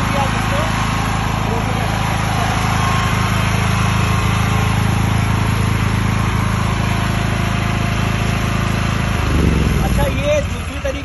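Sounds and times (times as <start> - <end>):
generator engine droning: 0.0 - 11.0.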